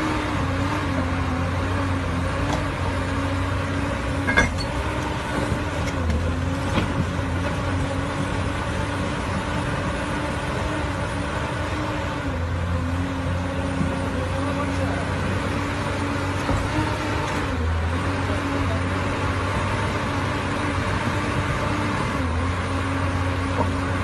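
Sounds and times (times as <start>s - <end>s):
heavy machine engine under load: 0.0s - 24.0s.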